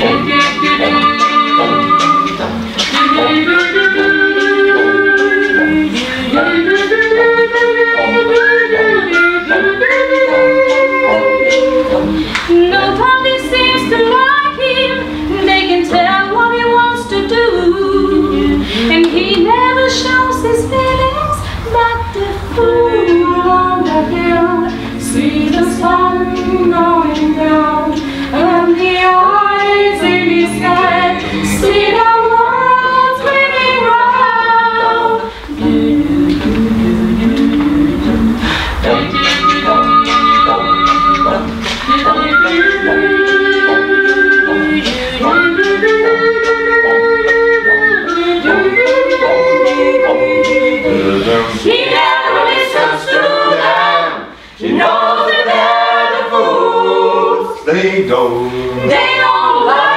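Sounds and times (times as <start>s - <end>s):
vocal ensemble singing a cappella: 0.0s - 59.9s.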